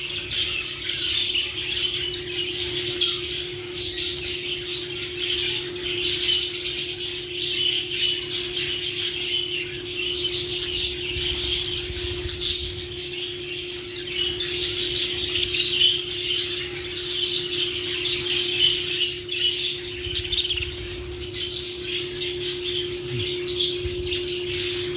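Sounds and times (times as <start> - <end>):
lovebirds chirping and squawking: 0.0 - 24.9
steady low hum: 0.0 - 24.9.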